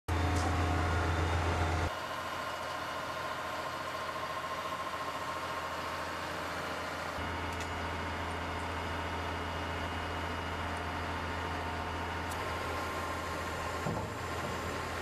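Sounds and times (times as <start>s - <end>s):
heavy engine deep hum: 0.1s - 15.0s.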